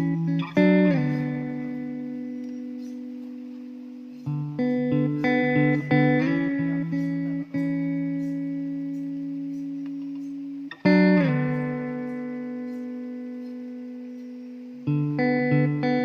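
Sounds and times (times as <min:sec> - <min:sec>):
plucked guitar chords: 0:00.0 - 0:16.0.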